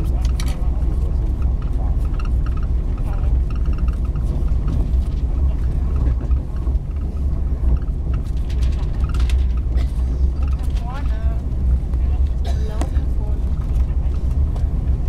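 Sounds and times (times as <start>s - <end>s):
faint voices: 0.0s - 7.8s, 9.6s - 15.0s
train rumbling inside carriage: 0.0s - 15.0s.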